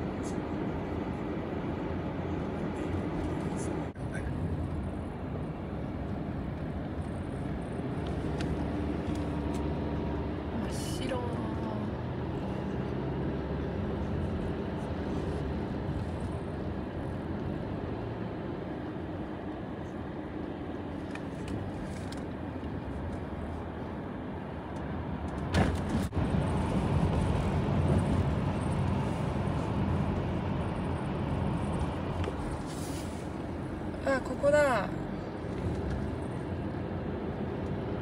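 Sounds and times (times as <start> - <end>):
tyres and engine rumble: 0.0 - 38.0.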